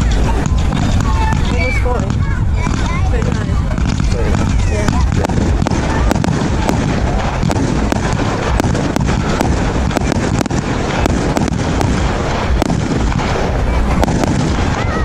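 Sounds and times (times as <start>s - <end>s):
firework bangs and cracks: 0.0s - 15.0s
low rumble: 0.0s - 15.0s.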